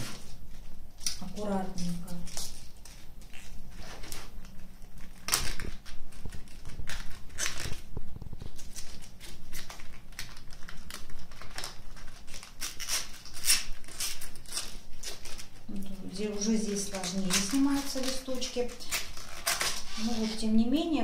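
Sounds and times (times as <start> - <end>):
cabbage leaves tearing: 1.0 - 20.6.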